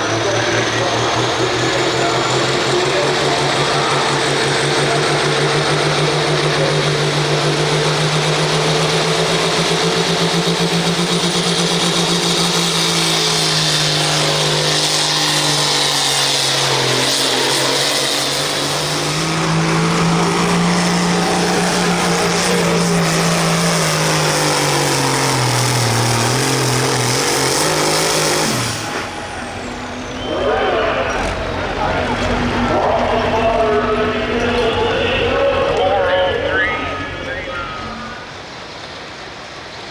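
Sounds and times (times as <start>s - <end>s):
diesel tractor engine under full load: 0.0s - 39.9s.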